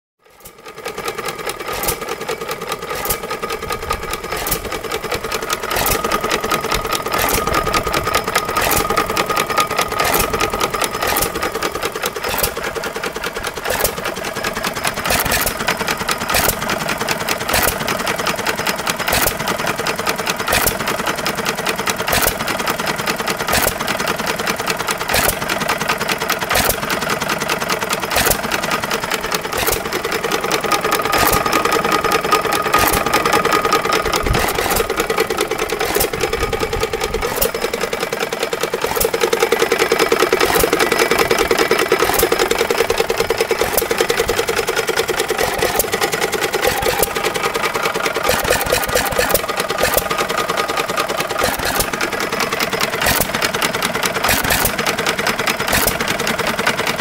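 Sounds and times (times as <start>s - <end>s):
stationary engine clattering: 0.2s - 57.0s
engine sharp bangs: 1.6s - 18.3s, 19.0s - 19.6s, 20.4s - 21.0s, 25.1s - 25.8s, 26.4s - 27.1s, 28.0s - 57.0s.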